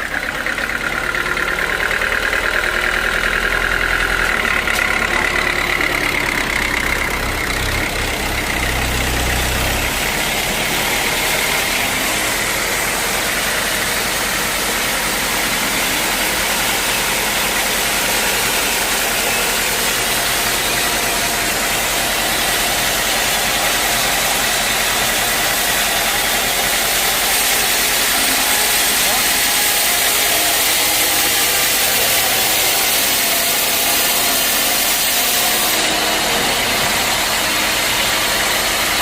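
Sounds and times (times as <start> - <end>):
sawmill machinery running: 0.0 - 39.0.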